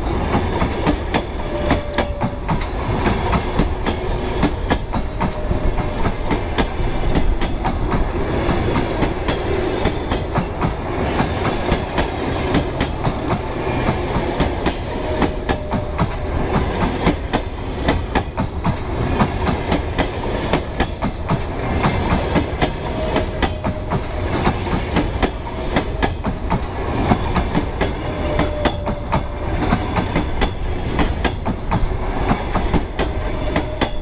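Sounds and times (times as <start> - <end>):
continuous train rumble: 0.0 - 34.0
train wheels clattering over joints: 0.2 - 34.0.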